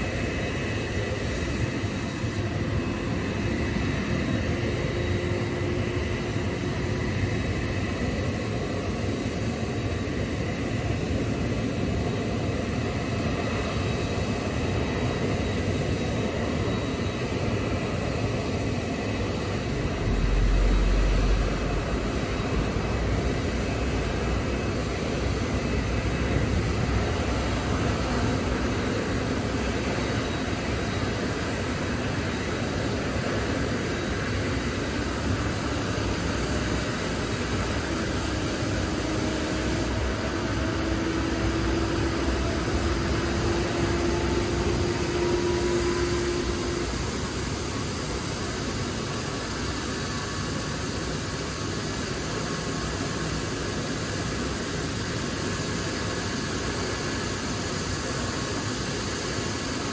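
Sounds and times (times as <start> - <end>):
jet turbine roar: 0.0 - 59.9
rising turbine whine: 0.0 - 59.9.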